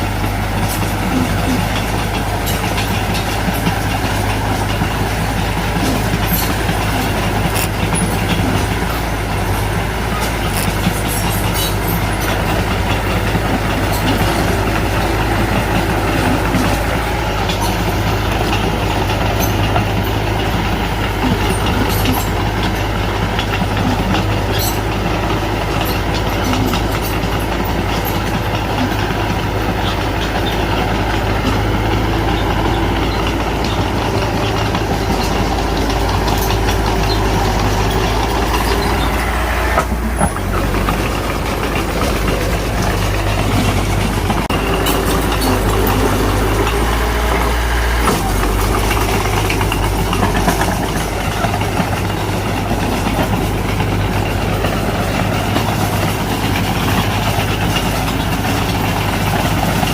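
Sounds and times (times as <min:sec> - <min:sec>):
bulldozer diesel engine running: 0:00.0 - 0:59.9
metallic clanks of steel tracks: 0:00.0 - 0:59.9.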